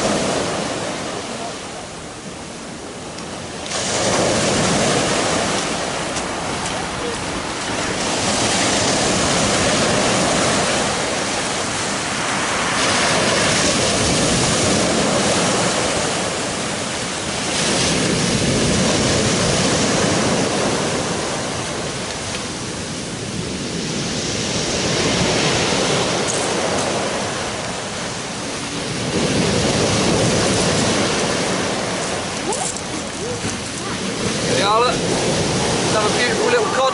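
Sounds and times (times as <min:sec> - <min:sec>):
surf waves breaking on beach: 0:00.0 - 0:36.9.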